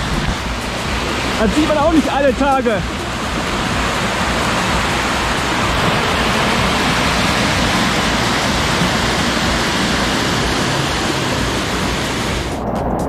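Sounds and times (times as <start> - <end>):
stream rushing over rapids: 0.0 - 12.6.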